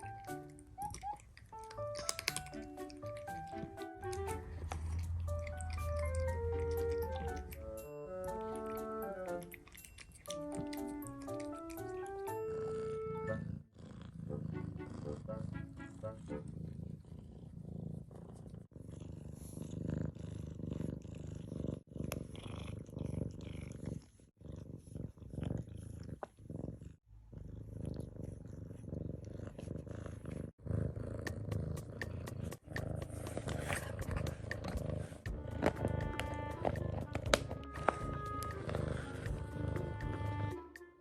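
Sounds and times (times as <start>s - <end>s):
cat purring: 0.0s - 40.6s.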